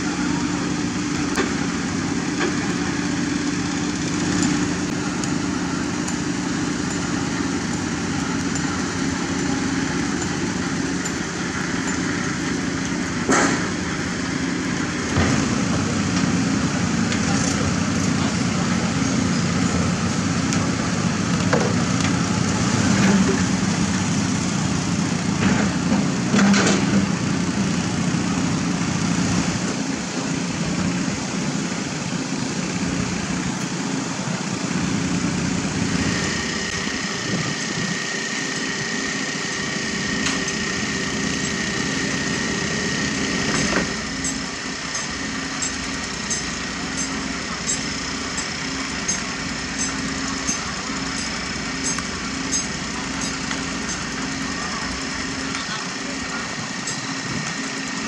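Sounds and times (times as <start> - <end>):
construction machinery engine humming: 0.0 - 58.0
steady high whine: 0.0 - 58.0.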